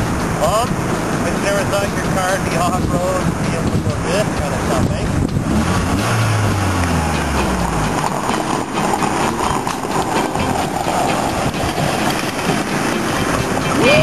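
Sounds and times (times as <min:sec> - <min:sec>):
car engine: 0:00.0 - 0:14.0
rumble and rattle on rough road: 0:00.0 - 0:14.0.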